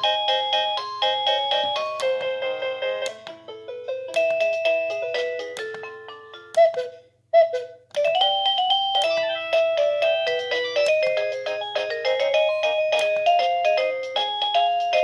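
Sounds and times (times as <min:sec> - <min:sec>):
electronic doorbell chime melody: 0:00.0 - 0:06.8, 0:08.0 - 0:15.0.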